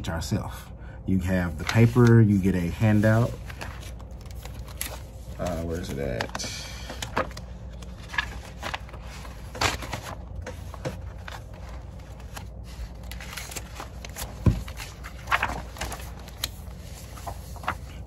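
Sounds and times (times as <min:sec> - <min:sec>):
papers rustling: 0:01.5 - 0:18.0.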